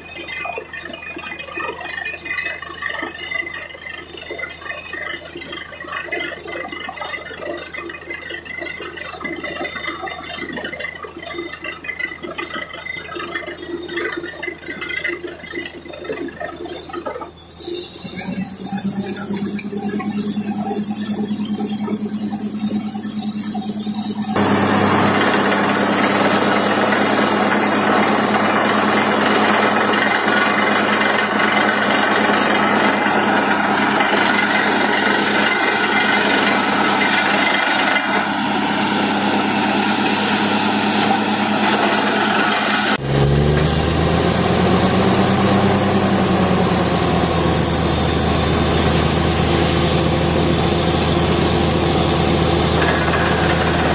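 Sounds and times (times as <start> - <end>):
drilling rig engine droning: 0.0 - 53.9.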